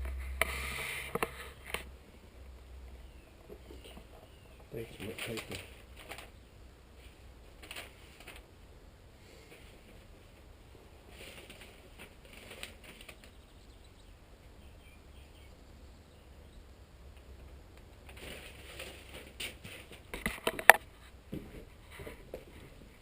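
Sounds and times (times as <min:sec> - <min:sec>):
faint rustling: 0:00.0 - 0:08.5, 0:09.2 - 0:13.6, 0:17.1 - 0:23.0.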